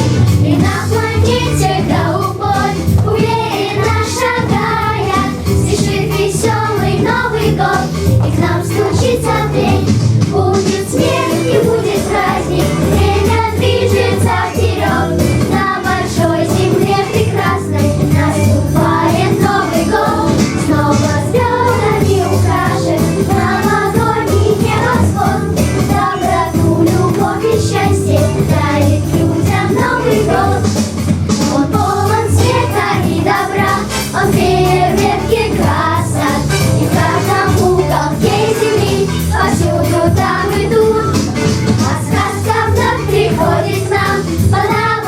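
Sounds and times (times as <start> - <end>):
children's choir singing: 0.0 - 45.0
instrumental accompaniment with bass: 0.0 - 45.0.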